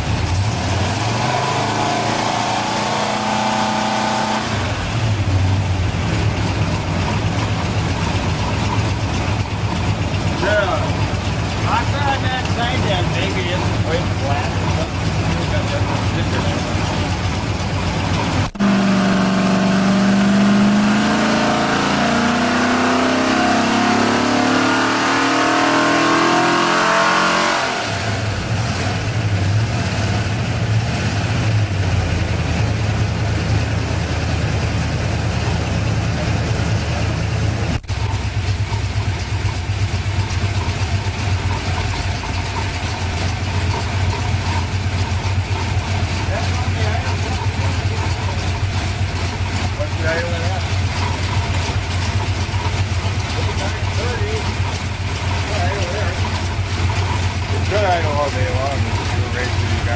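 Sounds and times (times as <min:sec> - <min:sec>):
engine revving and idling: 0:00.0 - 0:59.9.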